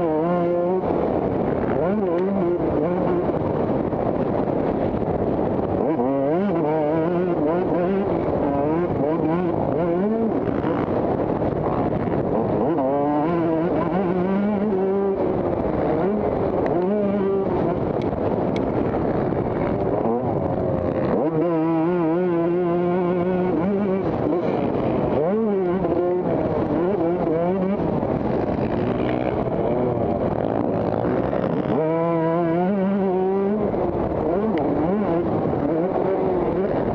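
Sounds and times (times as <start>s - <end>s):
motocross bike engines revving: 0.0s - 36.9s.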